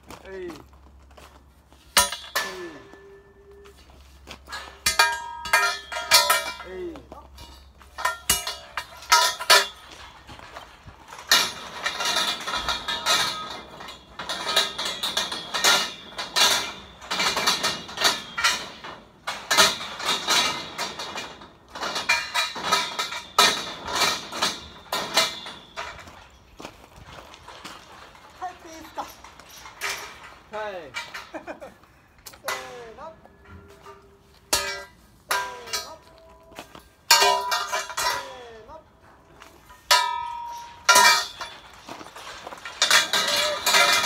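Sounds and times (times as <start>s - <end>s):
scaffolding parts clanking: 0.0s - 44.0s.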